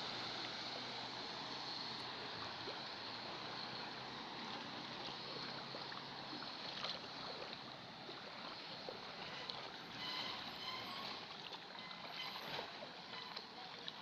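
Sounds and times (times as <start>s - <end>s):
car tyres splashing through water: 0.0s - 14.0s
water washing on flooded street: 0.0s - 14.0s.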